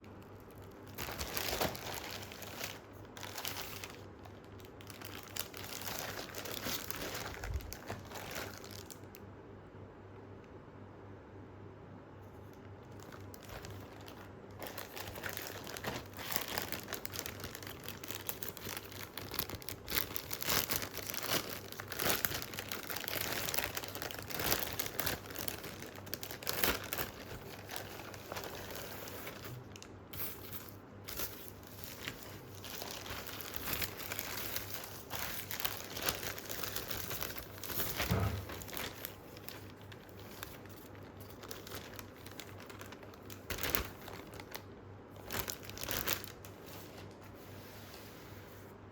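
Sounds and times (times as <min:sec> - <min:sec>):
packaging crinkling and rustling: 0:00.0 - 0:09.2, 0:12.4 - 0:47.9.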